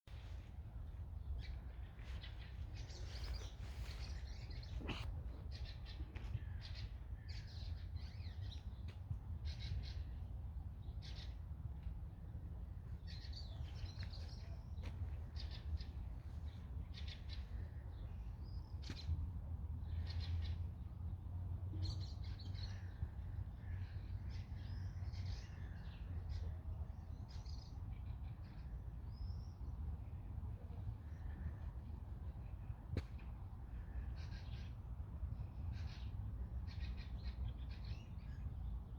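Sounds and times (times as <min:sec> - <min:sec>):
songbirds chirping and twittering: 0:00.1 - 0:38.9.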